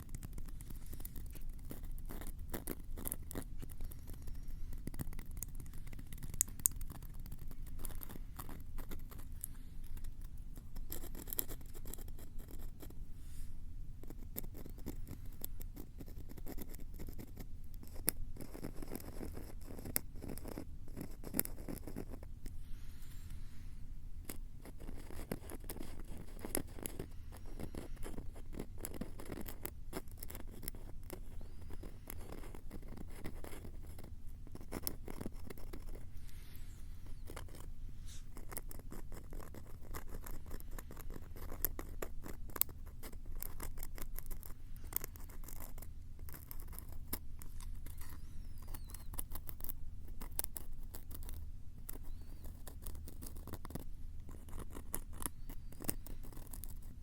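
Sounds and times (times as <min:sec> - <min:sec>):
scratching and crackling on microphone: 0:00.0 - 0:13.0, 0:24.2 - 0:57.0.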